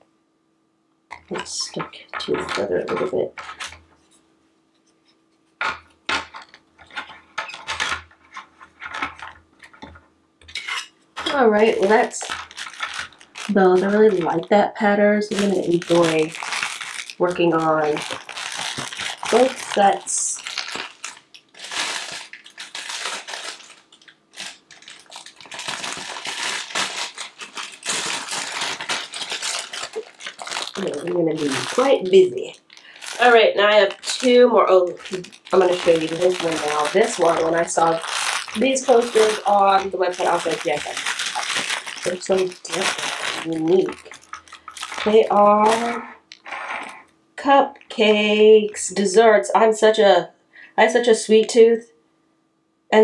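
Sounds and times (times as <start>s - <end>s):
plastic packaging crinkling: 1.1s - 4.2s, 5.6s - 47.2s.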